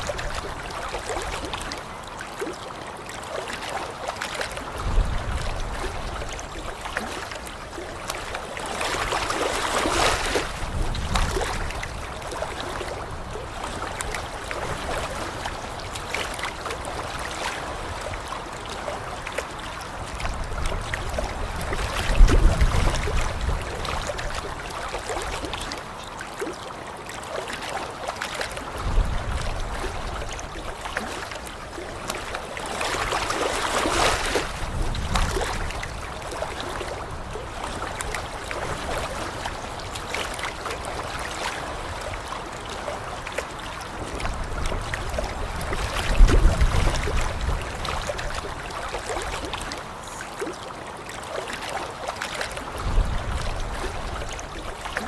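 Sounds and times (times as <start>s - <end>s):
lake water lapping at shore: 0.0s - 55.0s.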